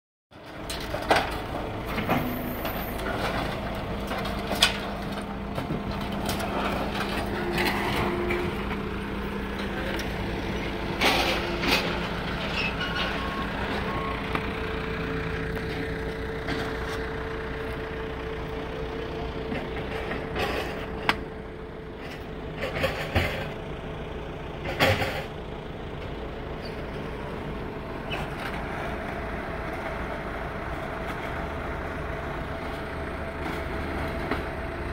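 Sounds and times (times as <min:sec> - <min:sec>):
loader engine running: 0:00.3 - 0:34.9.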